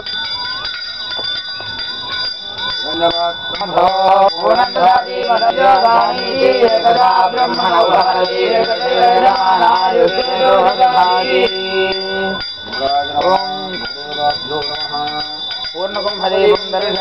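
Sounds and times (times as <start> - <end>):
hand bell ringing: 0.0 - 17.0
man chanting melodically: 2.8 - 17.0.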